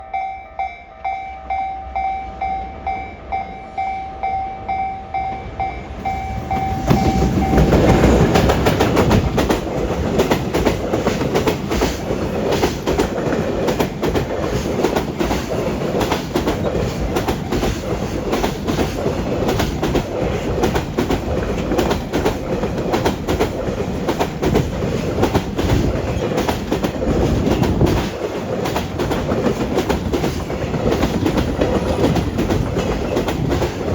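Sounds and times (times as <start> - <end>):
freight train wheels clattering: 5.9 - 33.9.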